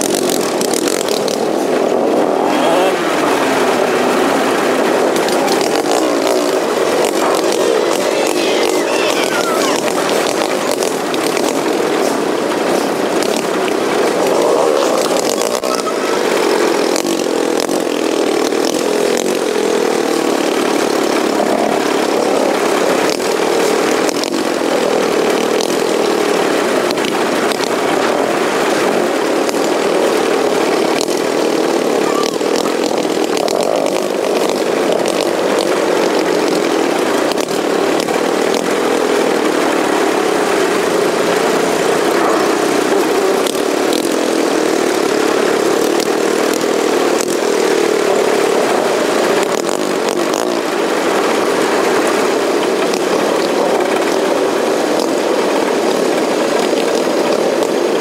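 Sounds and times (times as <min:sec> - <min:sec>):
small clicks from rough road: 0:00.0 - 0:02.0, 0:05.0 - 0:58.0
lawnmower engine running: 0:00.0 - 0:58.0.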